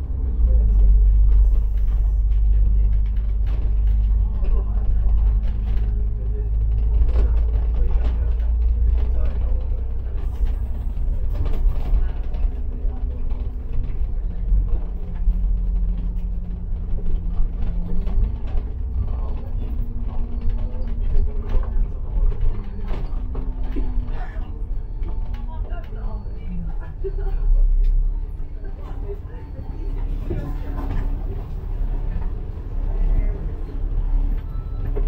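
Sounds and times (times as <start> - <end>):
bus engine hum: 0.0 - 35.0
road rumble: 0.0 - 35.0.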